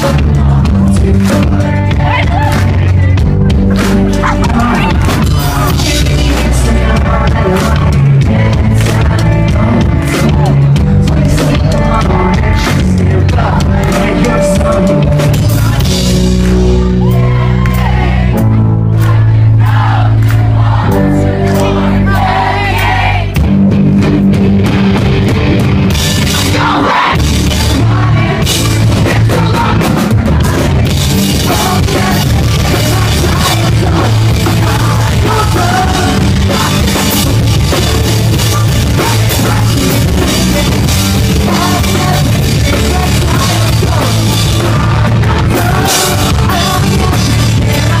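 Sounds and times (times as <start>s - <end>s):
lead singer singing: 0.0s - 23.4s, 26.1s - 48.0s
drums: 0.0s - 48.0s
live pop-punk band: 0.0s - 48.0s
sustained guitar chords: 0.0s - 48.0s.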